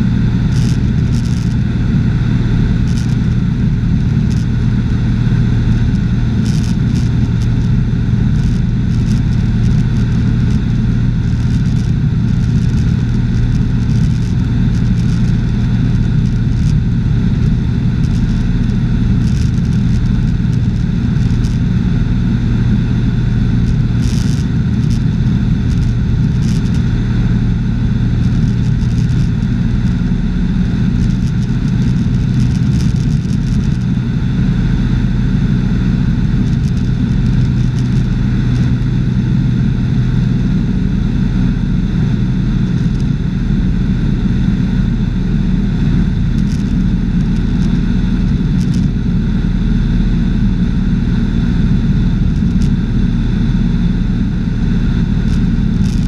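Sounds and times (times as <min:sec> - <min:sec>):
airplane engine droning in cabin: 0:00.0 - 0:56.0.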